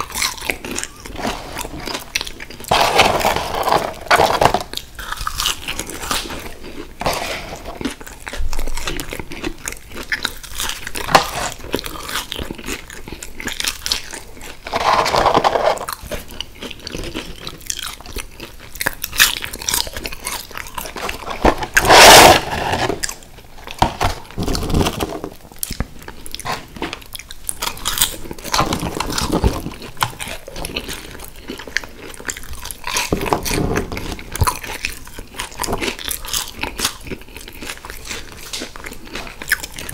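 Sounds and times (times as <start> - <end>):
chewing and crunching fries: 0.0 - 39.9.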